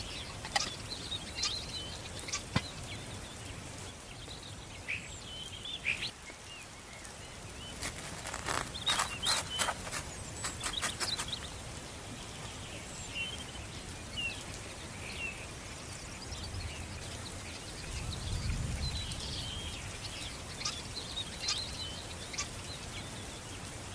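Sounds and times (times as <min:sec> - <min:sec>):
outdoor background noise: 0:00.0 - 0:23.9
small birds chirping: 0:00.0 - 0:23.9.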